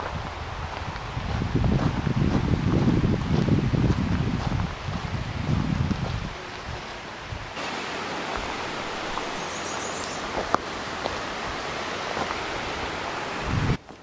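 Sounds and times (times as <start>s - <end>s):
mountain stream rushing over stones: 0.0s - 14.0s.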